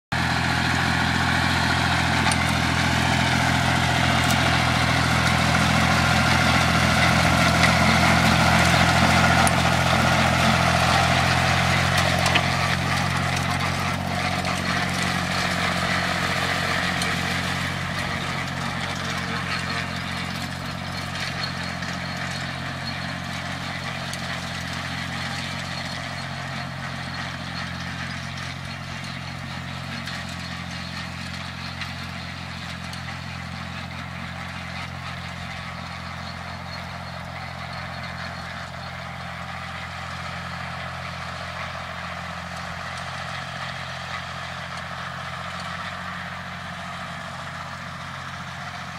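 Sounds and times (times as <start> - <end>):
tractor diesel engine running: 0.1 - 48.9.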